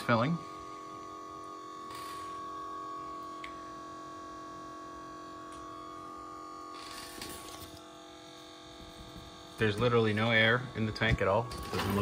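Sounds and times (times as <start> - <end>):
electric pump motor humming: 0.0 - 12.0.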